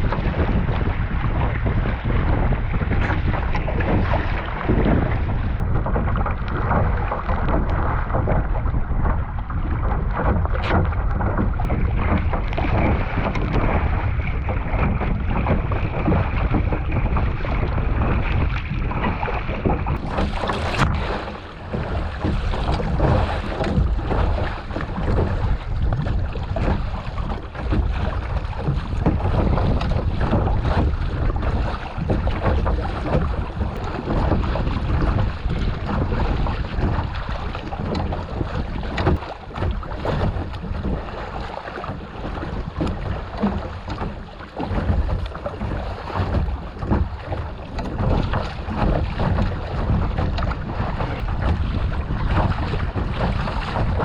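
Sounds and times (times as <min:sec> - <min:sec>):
water splashing around kayak: 0:00.0 - 0:54.0
wind buffeting microphone: 0:00.0 - 0:54.0.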